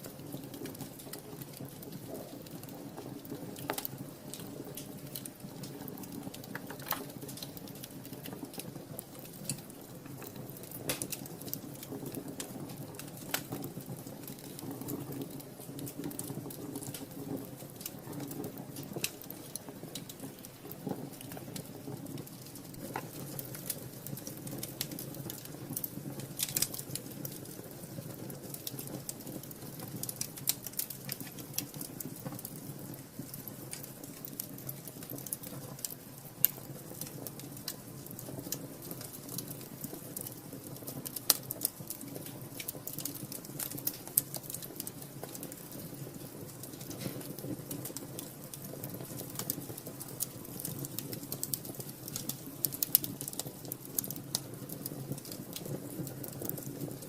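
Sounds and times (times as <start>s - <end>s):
low rush of flames: 0.0s - 57.0s
wood fire crackling: 0.0s - 57.0s.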